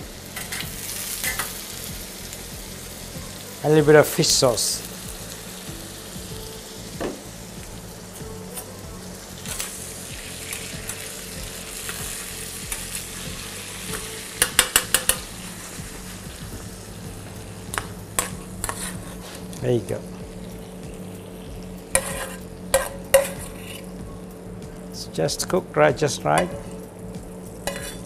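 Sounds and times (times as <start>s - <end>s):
food sizzling in oil in a wok: 0.0s - 28.0s.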